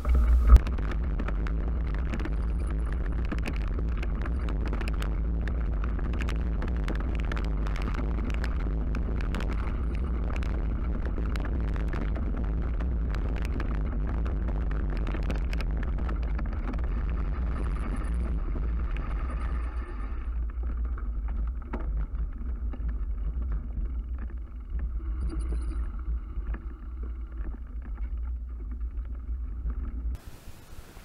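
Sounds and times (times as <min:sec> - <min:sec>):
bicycle tyres rattling over gravel: 0:00.0 - 0:30.2
low rumble: 0:00.0 - 0:30.3.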